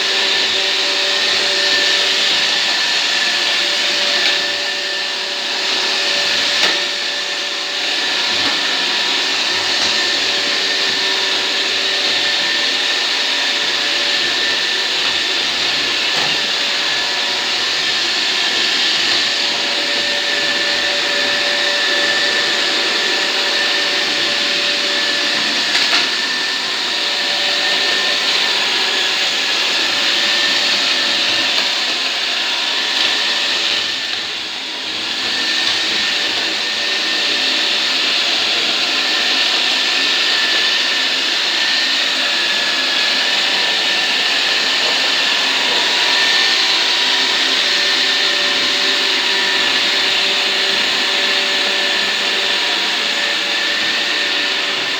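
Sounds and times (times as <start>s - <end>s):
robot vacuum whirring: 0.0s - 54.9s.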